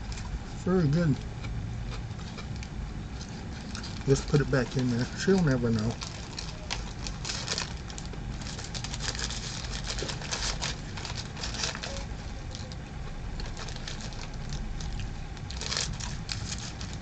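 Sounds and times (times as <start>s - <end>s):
steady low hum: 0.0s - 17.0s
sandwich wrapper crinkling: 2.1s - 17.0s.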